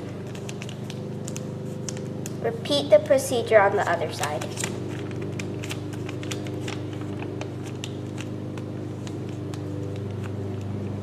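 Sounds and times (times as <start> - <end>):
paper being folded and creased: 0.0 - 11.0
steady low hum: 0.0 - 11.0.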